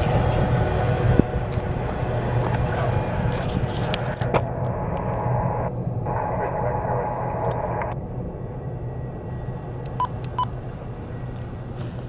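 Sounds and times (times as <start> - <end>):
freight train rumbling over bridge: 0.0 - 7.2, 7.8 - 12.0.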